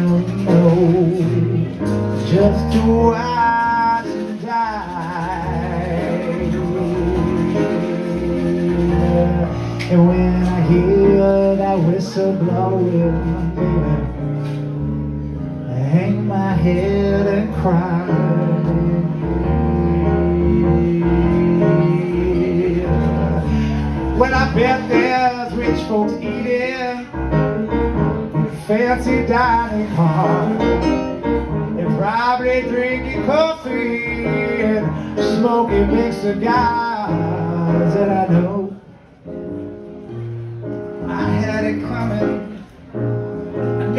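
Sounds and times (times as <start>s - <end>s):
keyboard bass line and chords: 0.0s - 43.9s.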